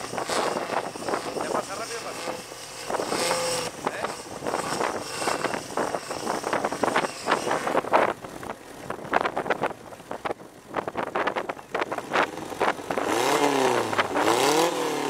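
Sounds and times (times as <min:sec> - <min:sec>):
sand buggy engine revving: 0:00.0 - 0:15.0.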